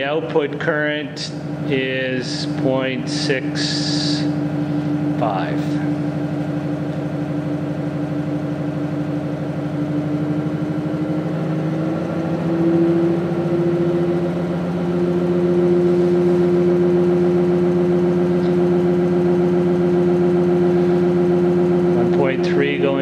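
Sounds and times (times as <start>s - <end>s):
stepper motor humming and buzzing: 0.0s - 23.0s.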